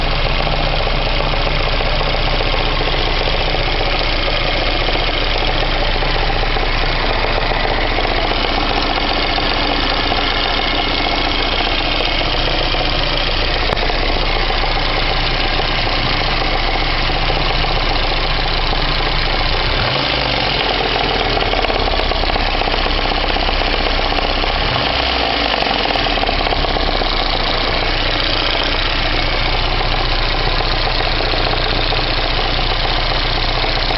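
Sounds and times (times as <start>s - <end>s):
car engine idling with knock: 0.0s - 33.9s.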